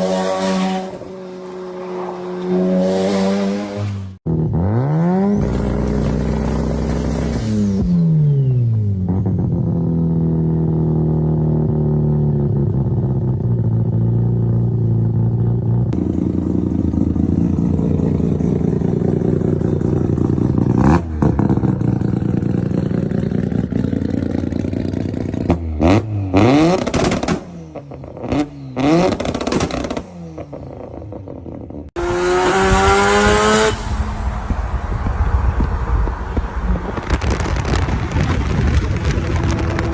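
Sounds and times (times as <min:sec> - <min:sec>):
rotary engine idling and revving: 0:00.0 - 0:39.9.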